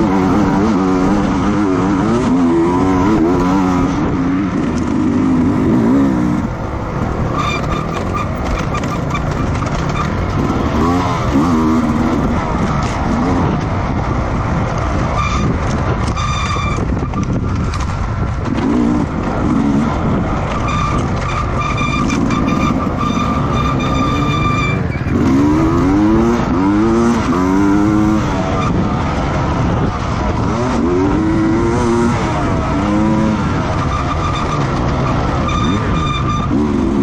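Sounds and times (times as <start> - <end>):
racing motorcycle engines: 0.0 - 37.0.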